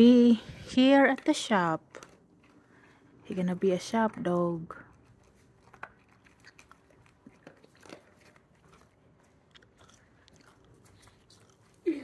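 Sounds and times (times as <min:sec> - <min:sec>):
dog chewing dry kibble: 0:00.8 - 0:12.0.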